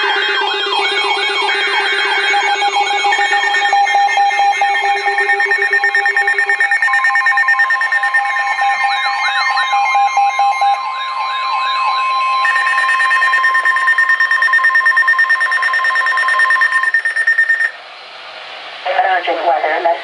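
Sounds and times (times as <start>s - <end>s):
digital data tone bursts: 0.0s - 17.8s
steady buzzing tone: 0.0s - 17.8s
steady warning tone: 0.0s - 17.8s
warbling siren-like alarms: 0.0s - 17.8s.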